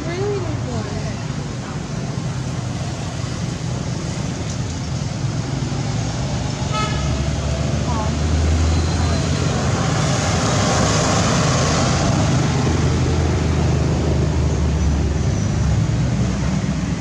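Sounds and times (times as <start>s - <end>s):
traffic road noise: 0.0s - 17.0s
vehicle engine rumble: 0.0s - 17.0s.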